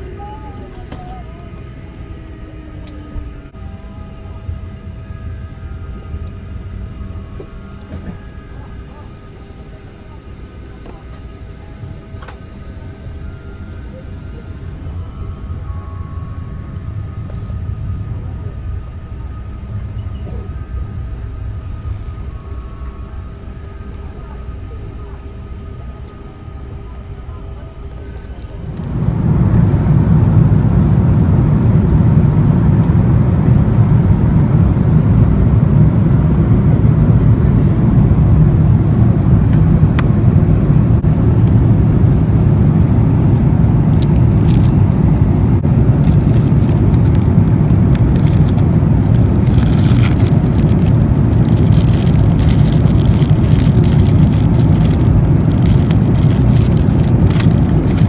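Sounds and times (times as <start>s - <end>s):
vehicle rumble from inside: 0.0s - 58.0s.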